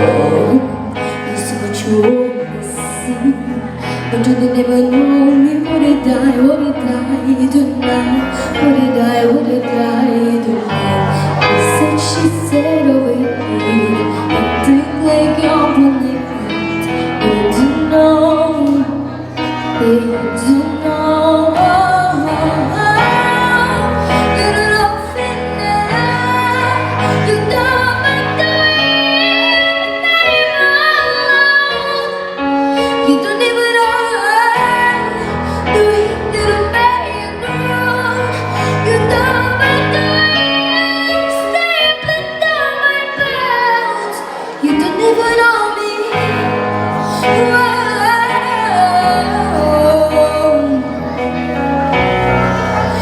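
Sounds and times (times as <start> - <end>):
girl singing a pop song: 0.0 - 51.8
backing track music: 0.0 - 53.0.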